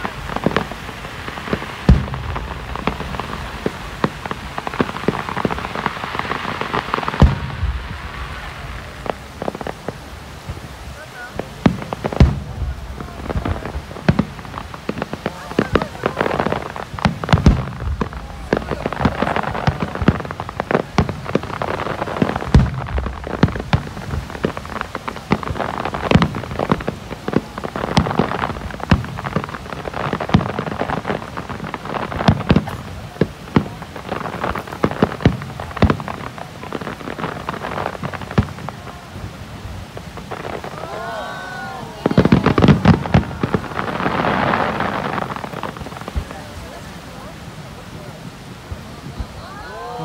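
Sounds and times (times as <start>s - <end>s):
crackle of small sharp pops: 0.0s - 8.0s, 11.4s - 41.0s, 42.0s - 46.4s.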